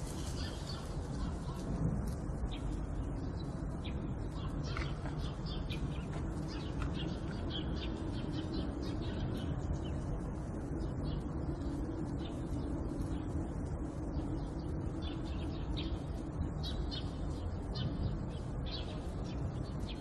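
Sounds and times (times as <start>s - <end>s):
low background hum: 0.0s - 20.0s
small birds chirping: 0.0s - 20.0s.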